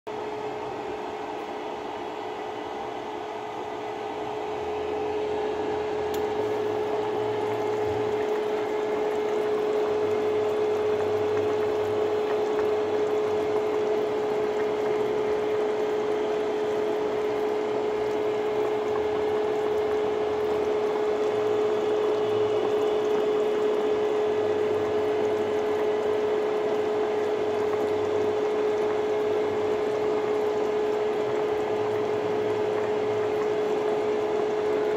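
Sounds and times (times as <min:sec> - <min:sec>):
soup boiling and bubbling: 0:00.1 - 0:34.9
steady hum: 0:00.1 - 0:34.9.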